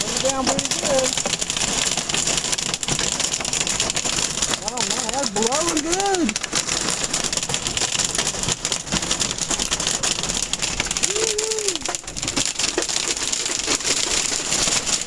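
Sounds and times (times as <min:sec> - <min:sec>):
hail pelting car windshield: 0:00.0 - 0:15.0
rain rushing: 0:00.0 - 0:15.0.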